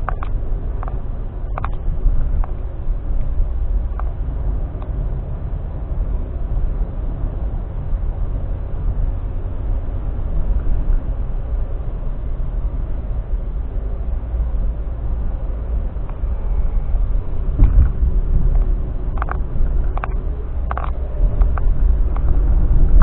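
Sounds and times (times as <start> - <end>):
car interior road rumble: 0.0 - 23.0.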